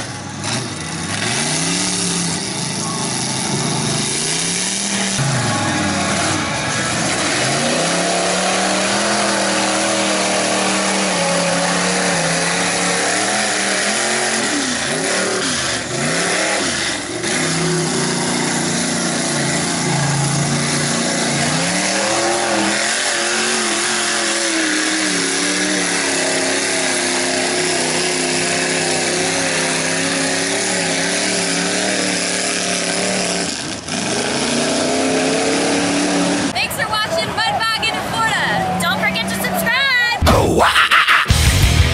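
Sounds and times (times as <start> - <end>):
truck engine revving: 0.0 - 41.9.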